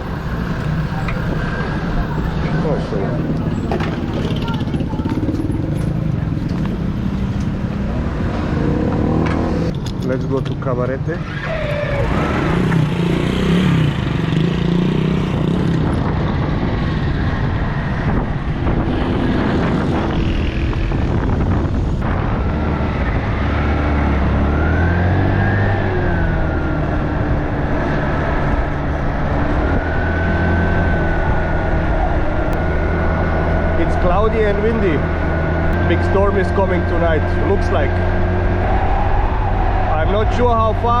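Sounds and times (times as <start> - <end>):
wind rumble on microphone: 0.0 - 41.0.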